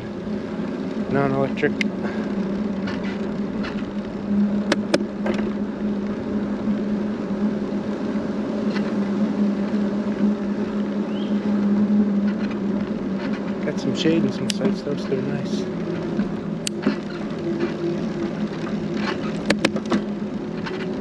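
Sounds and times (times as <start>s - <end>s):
vehicle humming: 0.0s - 21.0s.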